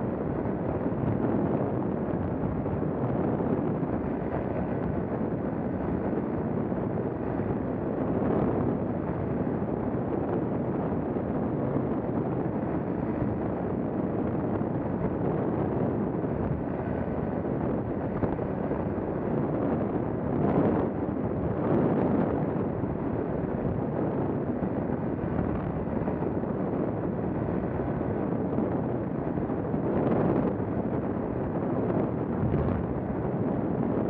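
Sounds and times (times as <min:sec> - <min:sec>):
paramotor engine and propeller: 0:00.0 - 0:34.0
wind buffeting the microphone: 0:00.0 - 0:34.0.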